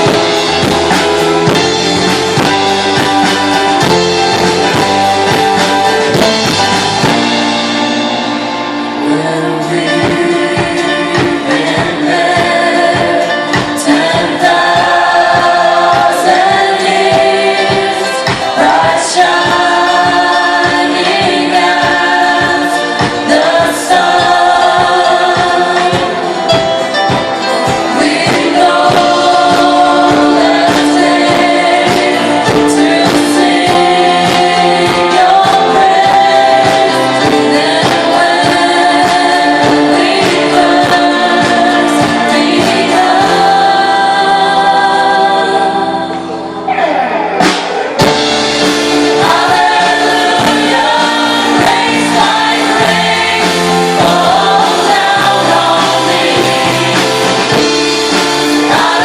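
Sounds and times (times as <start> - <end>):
drum kit beat: 0.0 - 45.9, 46.7 - 59.0
gospel band playing: 0.0 - 59.0
voices singing together: 0.0 - 59.0.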